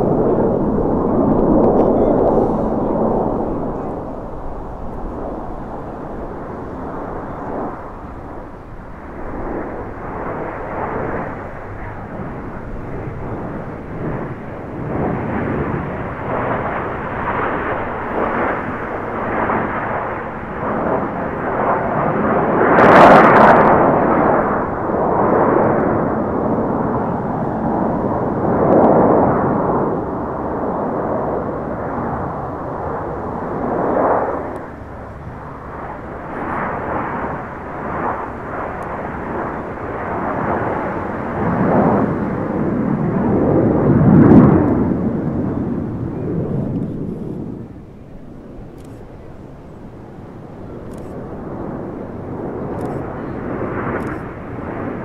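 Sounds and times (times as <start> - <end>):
jets flying over: 0.0 - 55.0.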